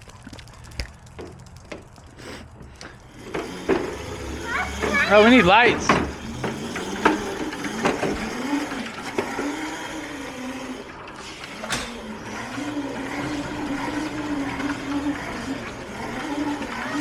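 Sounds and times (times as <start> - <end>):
electric motor whining: 2.4 - 17.0.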